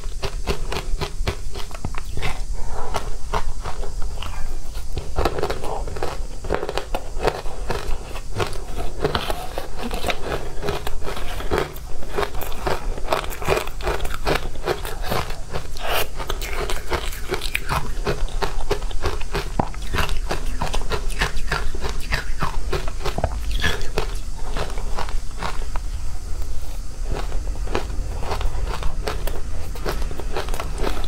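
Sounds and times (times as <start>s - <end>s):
crunching and chewing ice: 0.0s - 25.9s, 27.0s - 31.0s.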